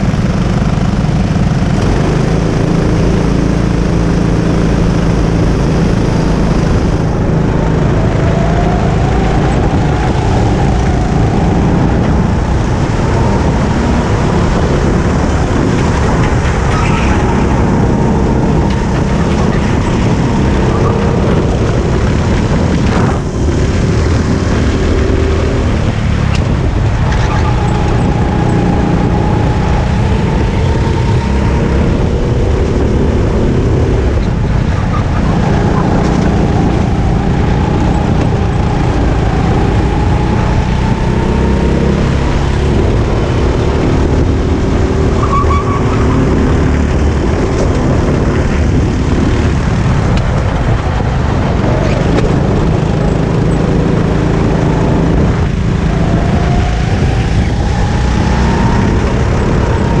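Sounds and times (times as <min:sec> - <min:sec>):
kart engine revving: 0:00.0 - 1:00.0
tyres rumbling on road: 0:00.0 - 1:00.0.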